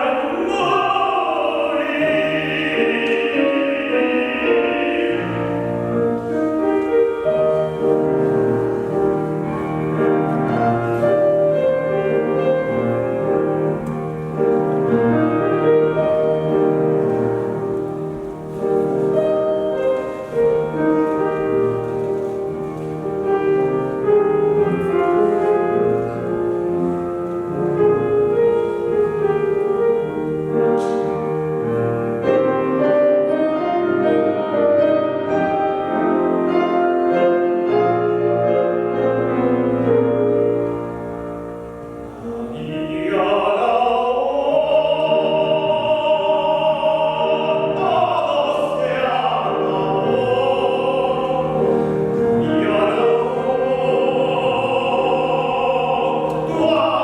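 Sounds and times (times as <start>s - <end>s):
classical solo voice singing: 0.0s - 57.0s
piano playing: 0.0s - 57.0s.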